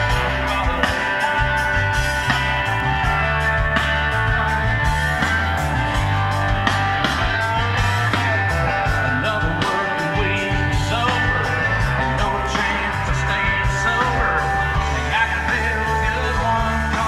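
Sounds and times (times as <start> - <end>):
rock music with guitar: 0.0 - 17.0.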